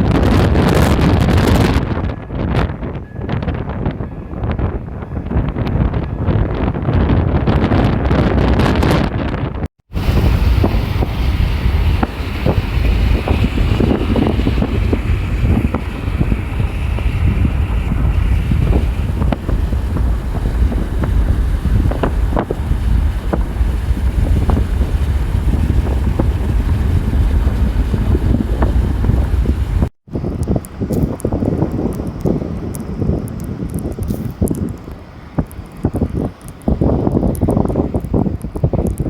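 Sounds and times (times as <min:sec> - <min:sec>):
storm wind buffeting microphone: 0:00.0 - 0:39.0.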